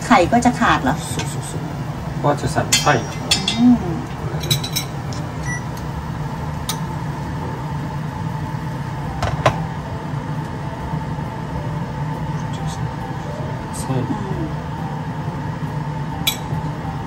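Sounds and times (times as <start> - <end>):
kitchen appliances humming: 0.0 - 17.0.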